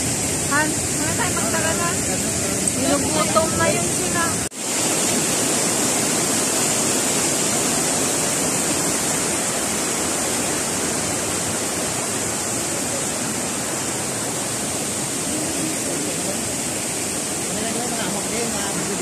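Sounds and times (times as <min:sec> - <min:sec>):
water cascading over boulders: 0:00.0 - 0:19.0.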